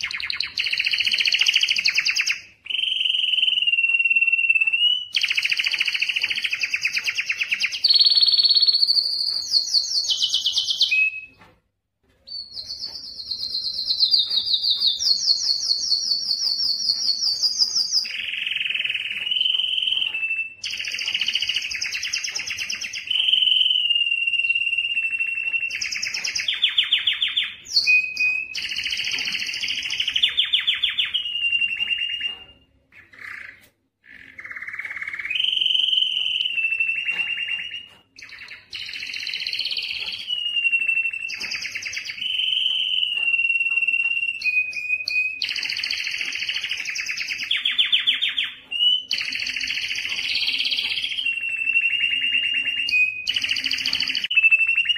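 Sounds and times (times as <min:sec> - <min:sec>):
canary singing trills: 0:00.0 - 0:11.6, 0:12.2 - 0:54.9.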